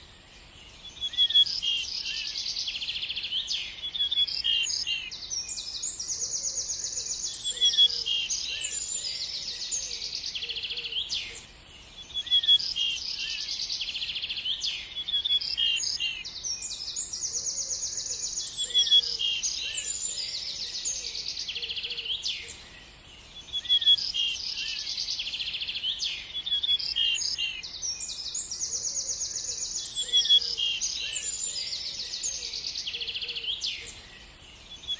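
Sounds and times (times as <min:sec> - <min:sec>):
birds singing: 0:00.0 - 0:34.9.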